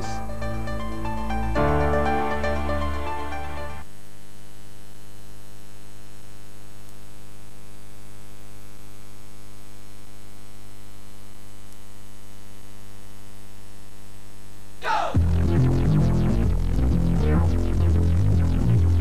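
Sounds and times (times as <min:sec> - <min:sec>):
mains hum and buzz: 0:00.0 - 0:19.0
tape hiss: 0:00.0 - 0:19.0.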